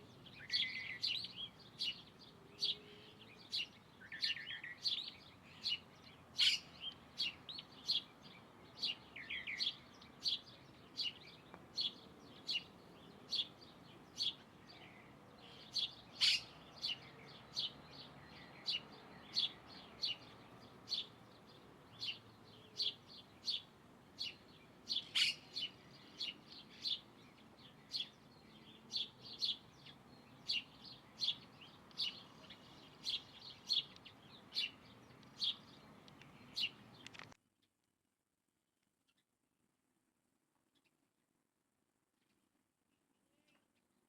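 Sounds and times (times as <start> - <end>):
bird chirping: 0.0 - 37.3
faint outdoor background noise: 0.0 - 44.0.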